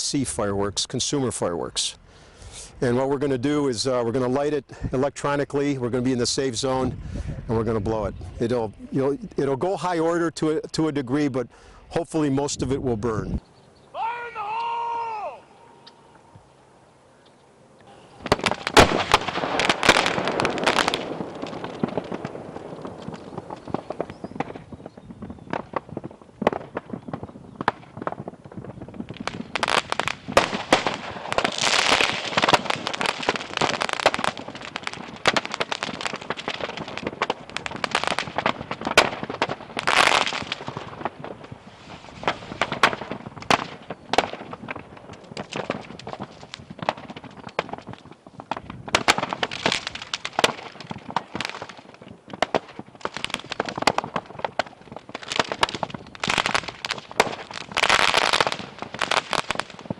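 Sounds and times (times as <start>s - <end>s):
fireworks crackling and popping: 0.0s - 12.7s, 17.9s - 59.9s.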